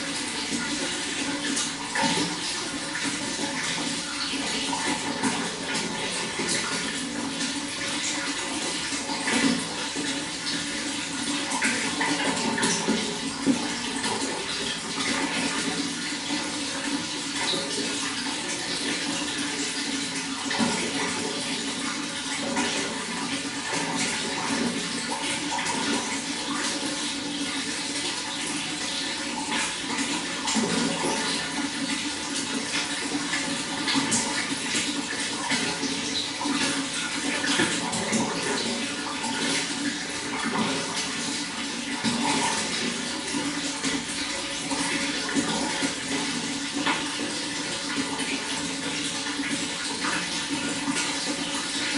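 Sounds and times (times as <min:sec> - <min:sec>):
running water with splashes: 0:00.0 - 0:51.9.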